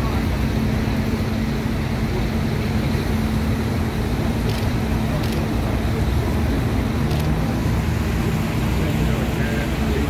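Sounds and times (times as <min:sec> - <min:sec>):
tractor diesel engines running: 0:00.0 - 0:10.0.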